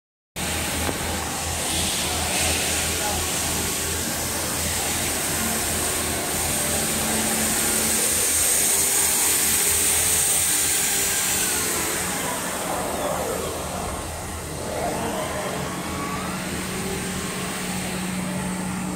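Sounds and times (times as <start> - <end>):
workshop machinery running: 0.4 - 18.9.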